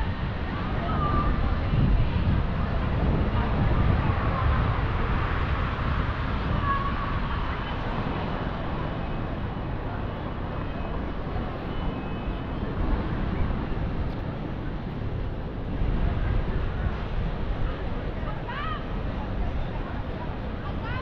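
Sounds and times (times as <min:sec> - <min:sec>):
faint voices of passers-by: 0:00.0 - 0:21.0
road traffic noise: 0:00.0 - 0:21.0.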